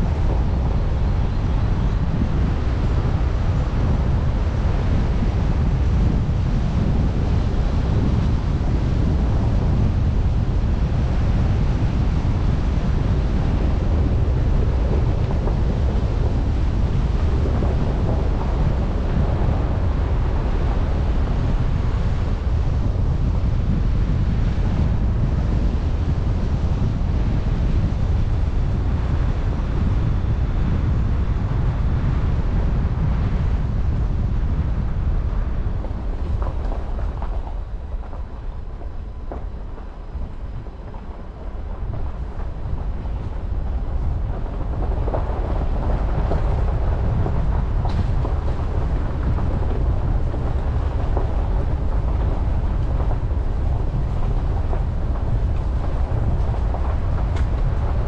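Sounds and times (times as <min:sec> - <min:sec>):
truck driving on gravel: 0:00.0 - 0:58.0
wind rumble on microphone: 0:00.0 - 0:58.0.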